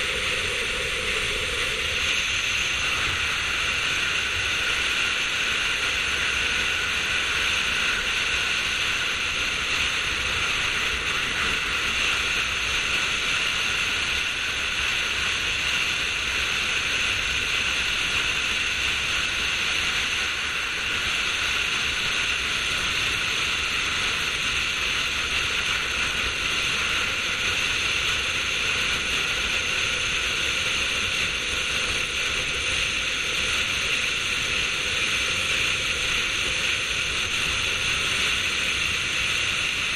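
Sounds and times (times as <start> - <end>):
road noise: 0.0 - 39.9
wind rushing on microphone: 0.0 - 39.9.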